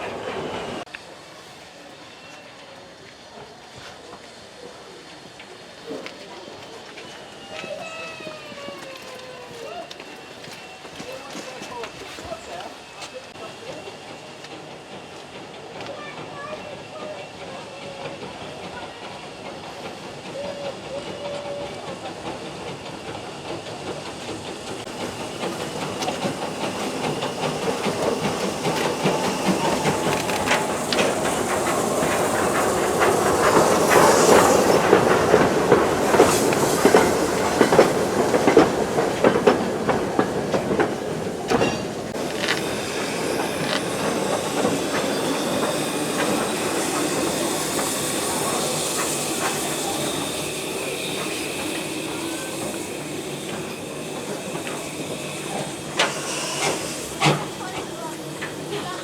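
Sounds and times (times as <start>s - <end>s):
steam hissing: 0.0s - 59.0s
train wheels clattering over rails: 3.1s - 59.0s.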